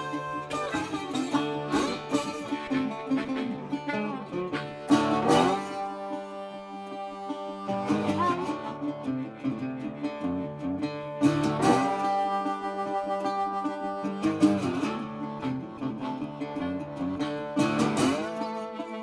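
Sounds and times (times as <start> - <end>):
blues harmonica wailing: 0.0 - 19.0
fingerpicked resonator guitar: 0.0 - 19.0.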